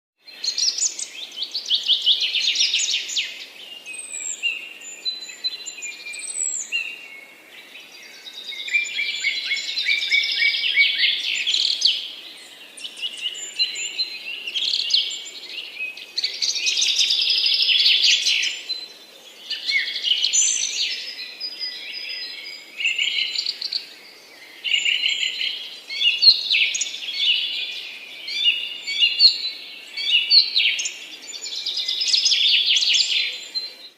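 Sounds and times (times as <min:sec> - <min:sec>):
thin whistled bird notes: 0:00.2 - 0:33.9
birds chirping and trilling: 0:00.3 - 0:33.9.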